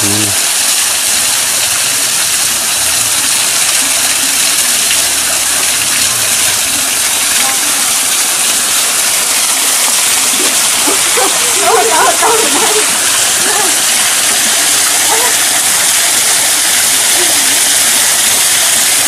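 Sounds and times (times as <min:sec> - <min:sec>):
small waterfall splashing on rock: 0:00.0 - 0:19.0.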